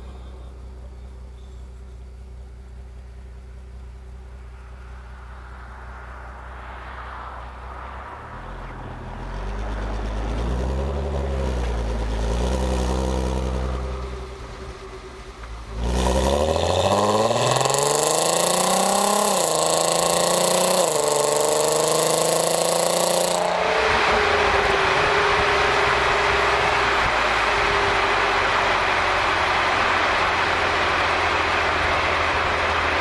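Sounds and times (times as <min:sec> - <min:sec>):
car exhaust rumbling and accelerating: 0:00.0 - 0:33.0.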